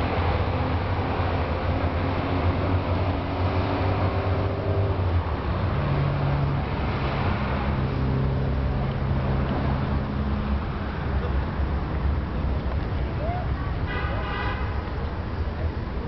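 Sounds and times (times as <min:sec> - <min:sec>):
vehicle engine low drone: 0:00.0 - 0:13.8
city traffic rumble: 0:00.0 - 0:16.0.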